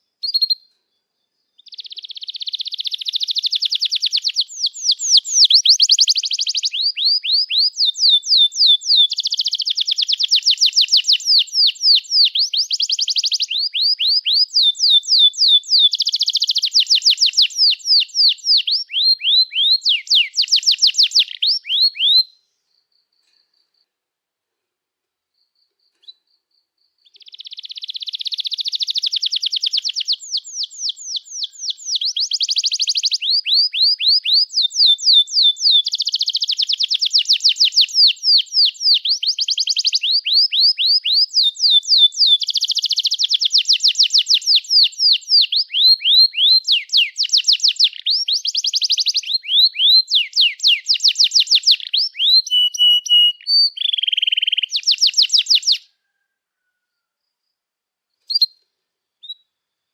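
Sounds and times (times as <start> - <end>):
canary singing trills: 0.0 - 22.4, 25.4 - 56.3, 58.2 - 58.6, 59.2 - 59.9.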